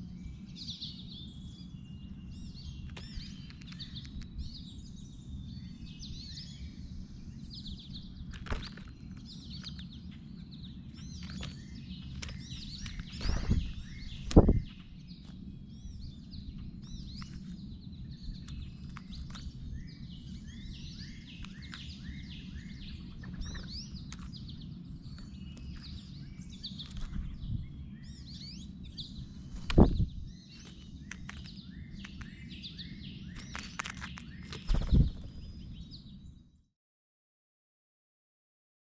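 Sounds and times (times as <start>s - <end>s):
wild birds chirping: 0.0s - 36.6s
low steady rumble: 0.2s - 32.4s.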